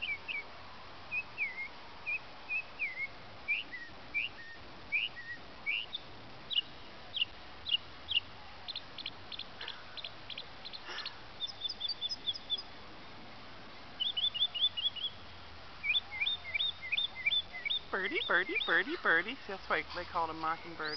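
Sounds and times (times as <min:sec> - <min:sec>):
mockingbird singing: 0:01.1 - 0:12.7, 0:14.0 - 0:15.2, 0:15.8 - 0:20.9.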